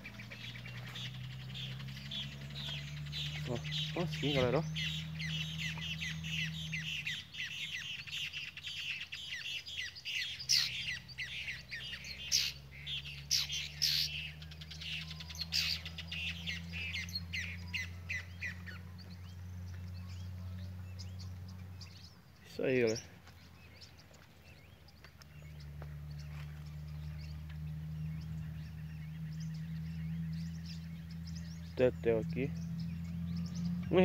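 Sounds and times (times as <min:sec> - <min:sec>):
birds chirping and calling: 0:00.0 - 0:34.0.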